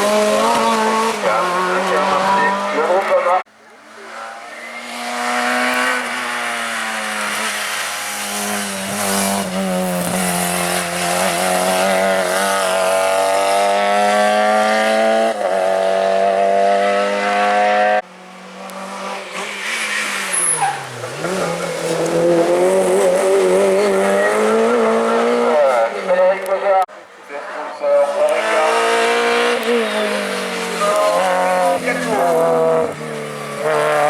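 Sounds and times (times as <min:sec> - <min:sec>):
race car engine at full throttle: 0:00.0 - 0:34.0.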